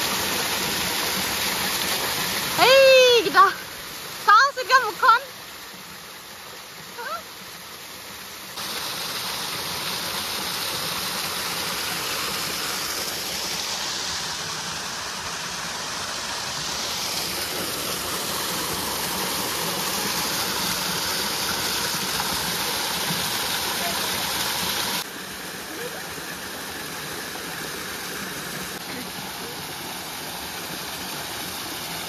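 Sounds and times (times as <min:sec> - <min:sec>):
waterfall rushing water: 0:00.0 - 0:32.0.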